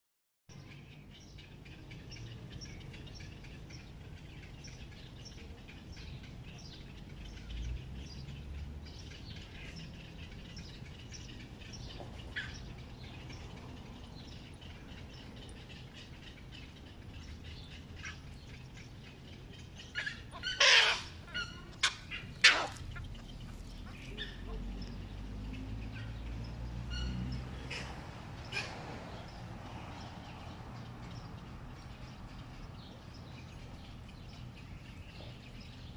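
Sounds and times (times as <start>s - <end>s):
small birds chirping: 0.5s - 35.9s
harsh bird calls: 0.6s - 35.9s.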